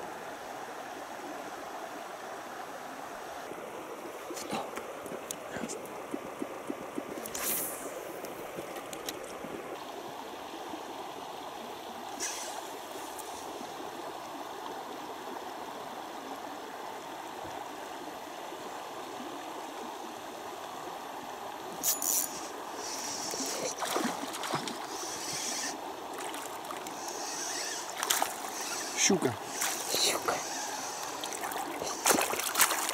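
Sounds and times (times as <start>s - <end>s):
river water gurgling: 0.0s - 32.9s.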